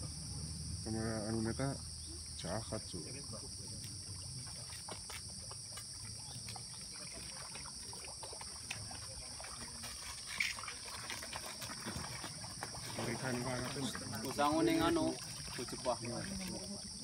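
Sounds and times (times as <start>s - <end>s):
high insect chorus: 0.0s - 17.0s
water splashing and trickling: 0.0s - 17.0s.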